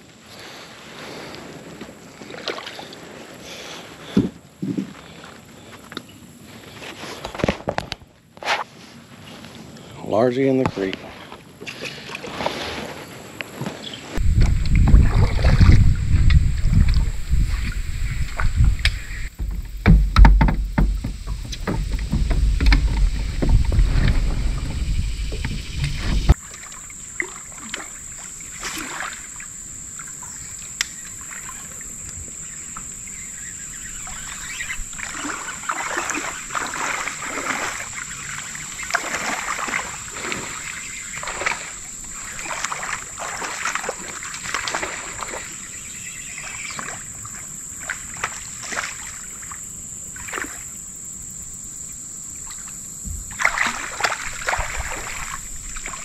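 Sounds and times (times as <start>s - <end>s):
water splashing around a kayak: 0.0s - 7.7s, 8.6s - 51.0s, 52.3s - 56.0s.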